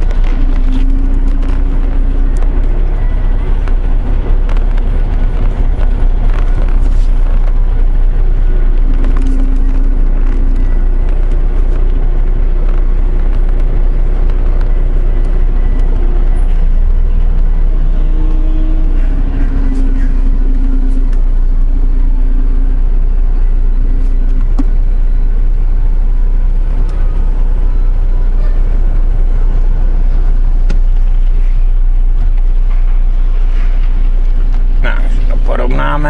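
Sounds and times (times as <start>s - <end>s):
diesel truck engine rumbling: 0.0s - 36.0s.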